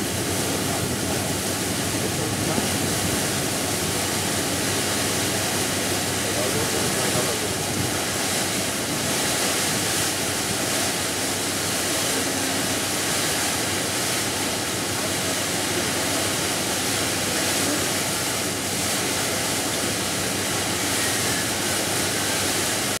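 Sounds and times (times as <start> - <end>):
wind and water rushing: 0.0 - 23.0.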